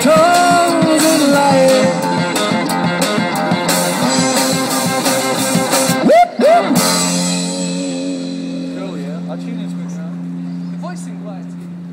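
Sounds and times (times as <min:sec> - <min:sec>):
drum kit: 0:00.0 - 0:10.0
electric guitars: 0:00.0 - 0:11.9.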